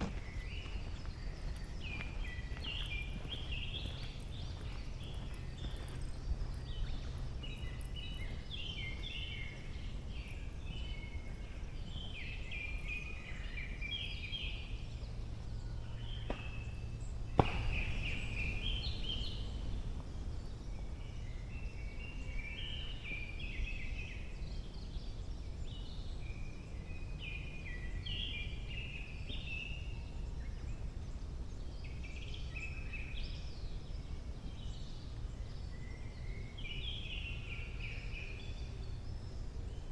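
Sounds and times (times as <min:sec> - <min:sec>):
low steady rumble: 0:00.0 - 0:39.9
songbirds singing: 0:00.0 - 0:39.9.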